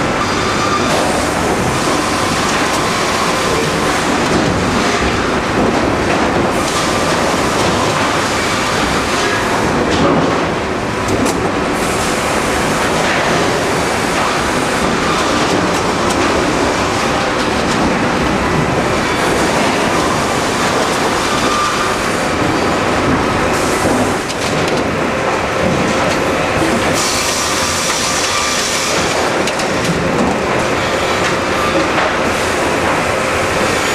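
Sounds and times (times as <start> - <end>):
sawmill machinery clattering: 0.0 - 33.9.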